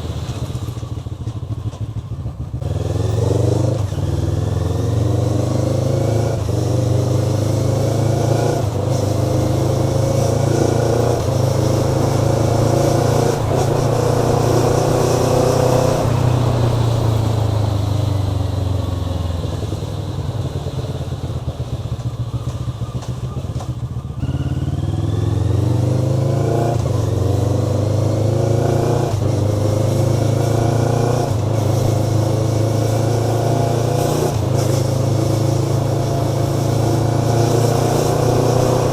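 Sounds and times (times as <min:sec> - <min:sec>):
motorcycle engine accelerating: 0:00.0 - 0:38.9
exhaust crackling: 0:06.2 - 0:38.9.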